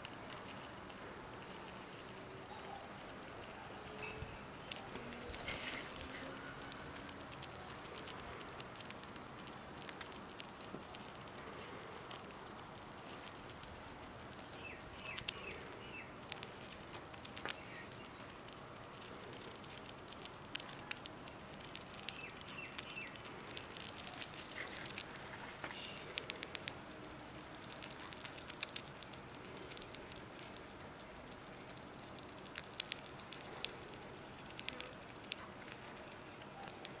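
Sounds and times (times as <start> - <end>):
rat chewing with crunching clicks: 0.0 - 37.0.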